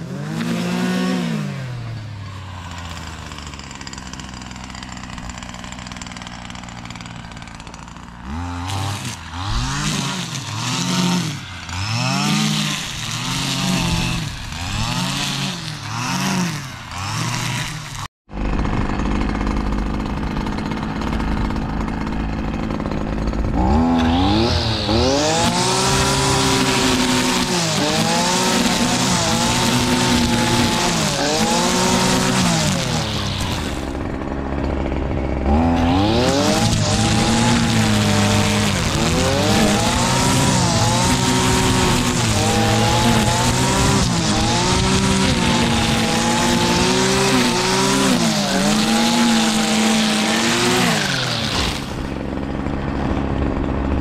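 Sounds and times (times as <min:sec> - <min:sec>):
brushcutter engine revving: 0:00.0 - 0:54.0.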